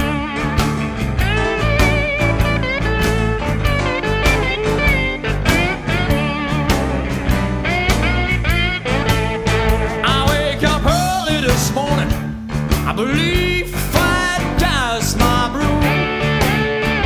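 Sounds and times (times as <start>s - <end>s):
bass line: 0.0s - 17.0s
regular drum beat: 0.0s - 17.0s
rock guitar melody: 0.0s - 17.0s.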